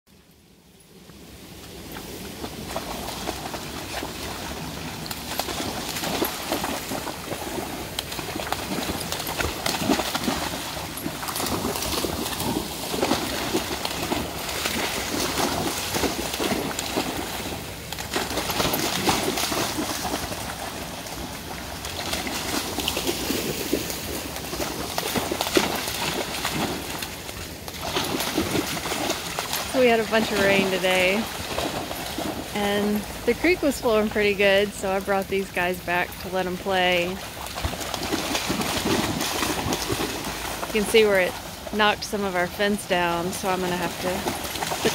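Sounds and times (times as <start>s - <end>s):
stream rushing: 0.8s - 44.9s
dogs splashing in water: 1.7s - 44.9s.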